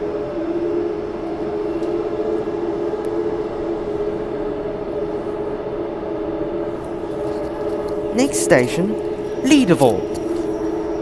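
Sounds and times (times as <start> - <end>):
electric train motor whine: 0.0 - 9.4, 10.0 - 11.0.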